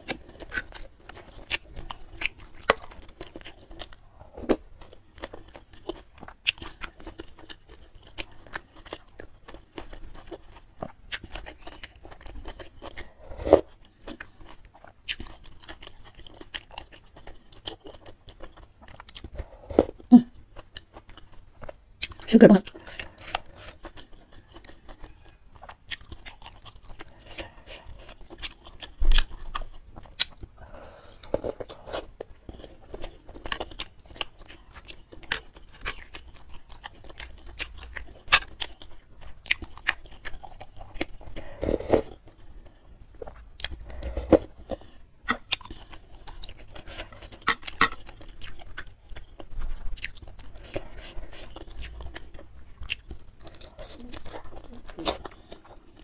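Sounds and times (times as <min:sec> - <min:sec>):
chewing and biting food: 0:00.0 - 0:56.0.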